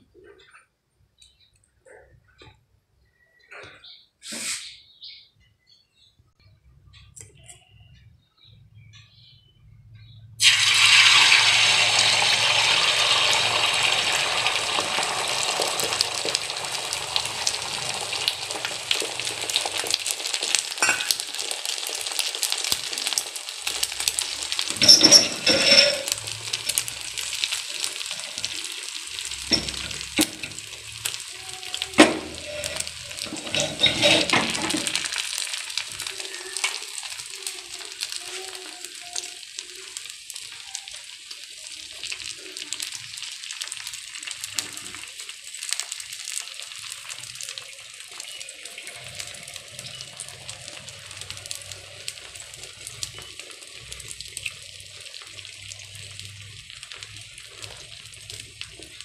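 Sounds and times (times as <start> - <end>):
egg sizzling in hot pan: 10.4 - 59.0.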